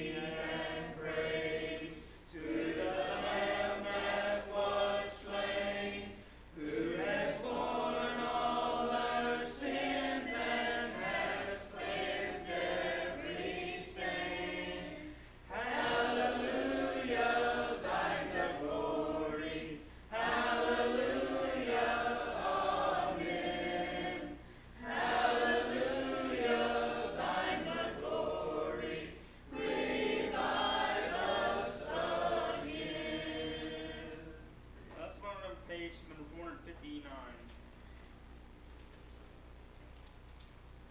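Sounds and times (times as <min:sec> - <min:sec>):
congregation singing a hymn: 0:00.0 - 0:34.6.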